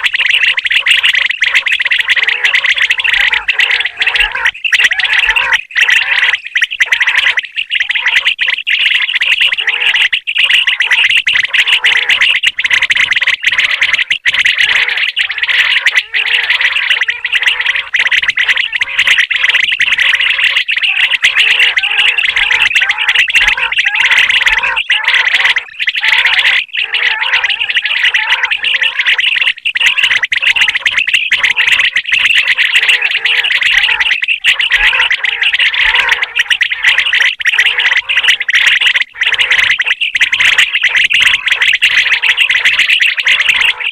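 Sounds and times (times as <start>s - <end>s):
quail calling: 0.0s - 43.9s.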